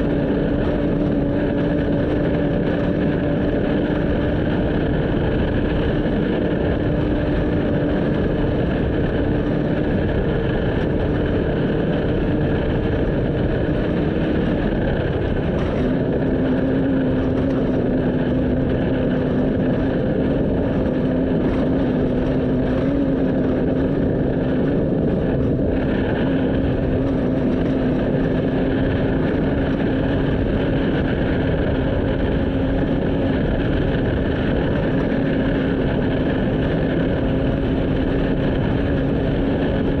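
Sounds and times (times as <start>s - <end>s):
race vehicle engine running: 0.0s - 40.0s
road and wind noise: 0.0s - 40.0s.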